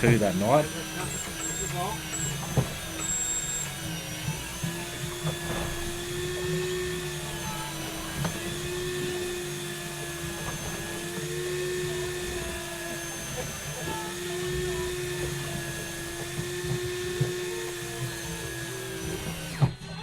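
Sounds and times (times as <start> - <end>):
electric fishing reel motor whine: 0.0 - 20.0.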